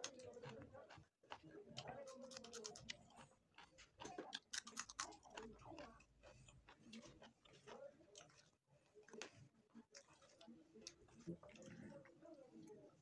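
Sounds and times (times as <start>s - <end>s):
person chewing and lip-smacking: 0.0s - 11.7s.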